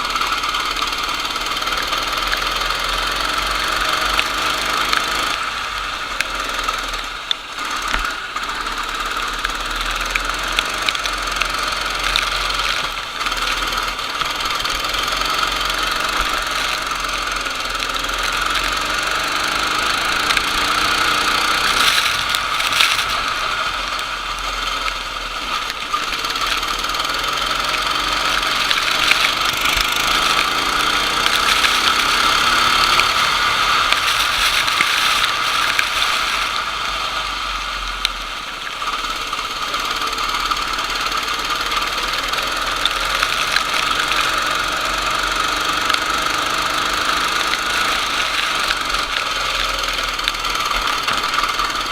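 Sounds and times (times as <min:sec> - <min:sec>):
kart engine running hard: 0:00.0 - 0:51.9.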